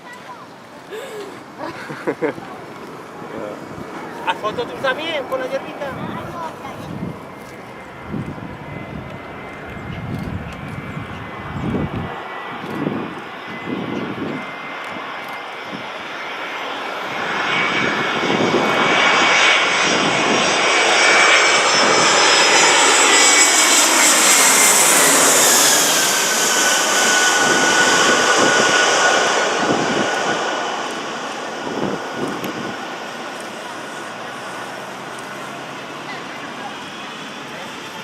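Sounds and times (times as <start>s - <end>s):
jet airliner taking off: 0.5s - 38.0s.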